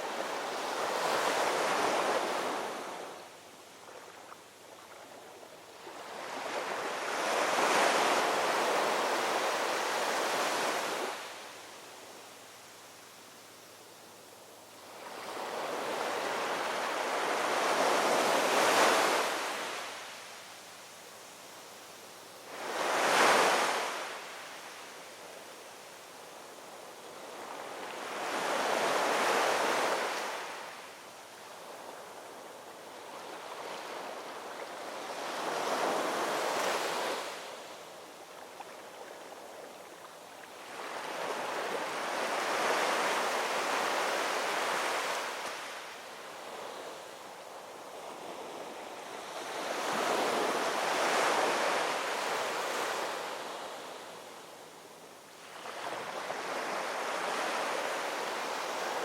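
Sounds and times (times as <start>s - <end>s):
ocean waves breaking on shore: 0.0s - 11.7s, 14.8s - 20.4s, 22.4s - 25.0s, 27.1s - 54.5s, 55.4s - 59.0s.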